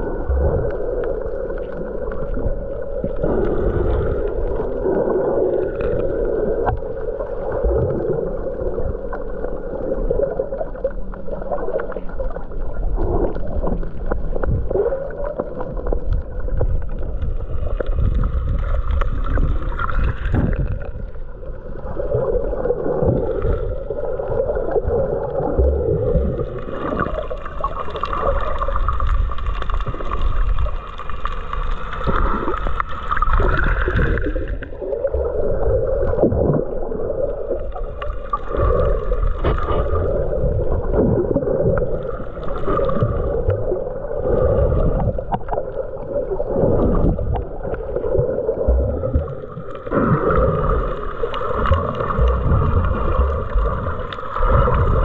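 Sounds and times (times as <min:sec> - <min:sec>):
steady low rumble: 0:00.0 - 0:55.0
water sloshing and gurgling: 0:00.0 - 0:55.0.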